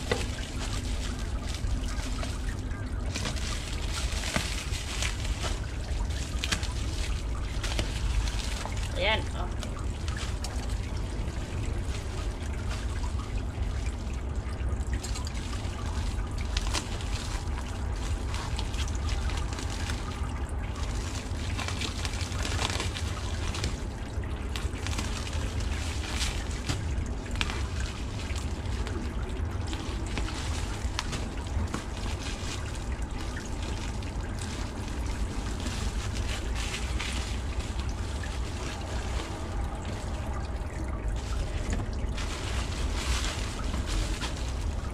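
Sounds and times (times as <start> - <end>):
plastic wrapping crinkling: 0.0 - 44.9.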